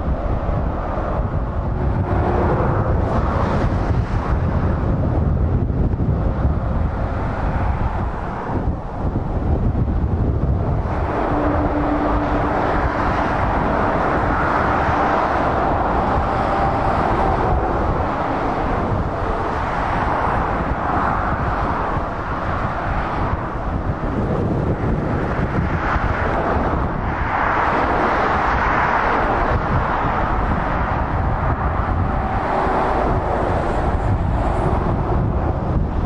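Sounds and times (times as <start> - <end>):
faint tyre whine: 0.0 - 36.0
traffic driving past: 0.0 - 36.0.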